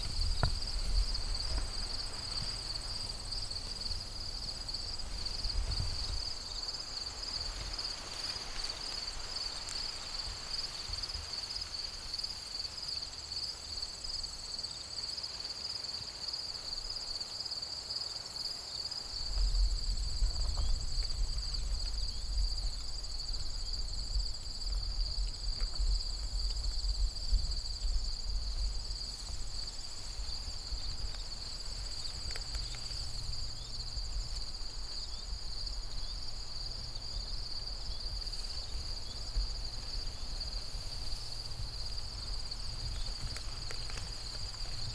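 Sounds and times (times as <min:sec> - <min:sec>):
field insects trilling: 0:00.0 - 0:44.9.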